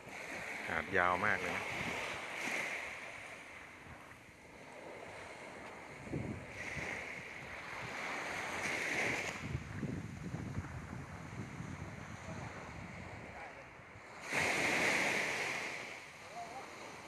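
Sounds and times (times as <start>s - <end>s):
wind rumbling on microphone: 0.0s - 16.0s
small waves washing on sand: 0.0s - 17.0s.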